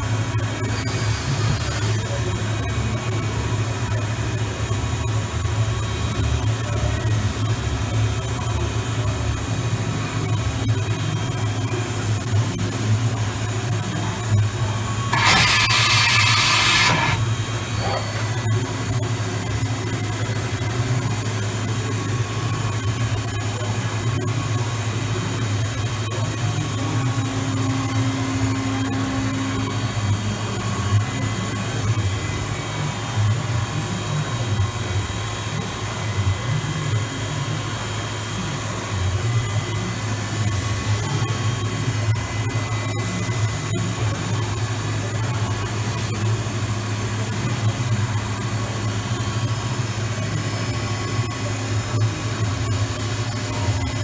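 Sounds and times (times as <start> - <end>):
machining center humming: 0.0 - 54.0.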